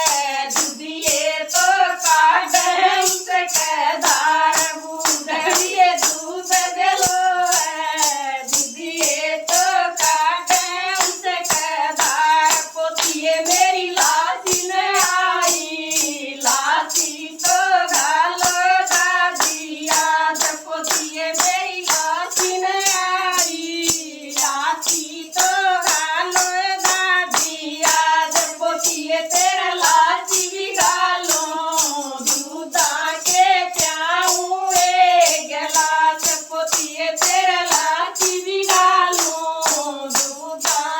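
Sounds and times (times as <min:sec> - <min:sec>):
jingling tambourine beat: 0:00.0 - 0:40.9
woman singing: 0:00.0 - 0:40.9.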